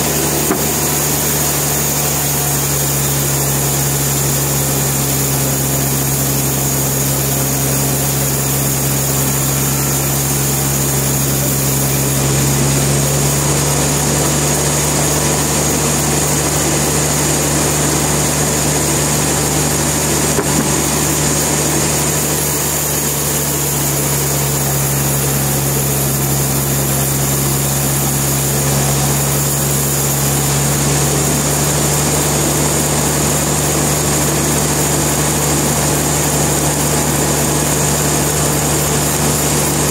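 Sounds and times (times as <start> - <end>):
sawmill machine hum: 0.0 - 39.9.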